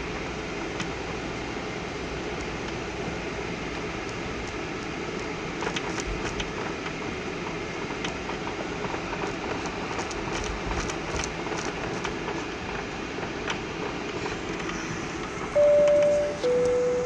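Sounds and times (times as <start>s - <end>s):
engine and airflow rumble: 0.0s - 17.0s.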